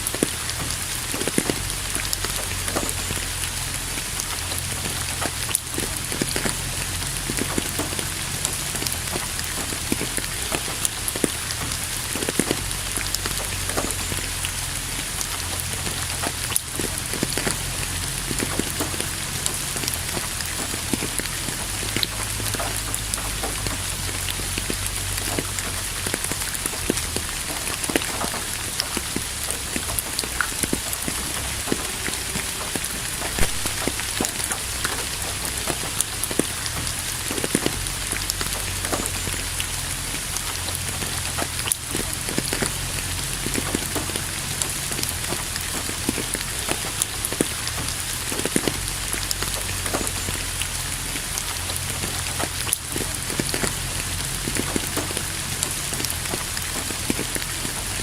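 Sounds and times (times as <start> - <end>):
rain falling: 0.0 - 58.0
raindrops ticking on a surface: 0.0 - 58.0.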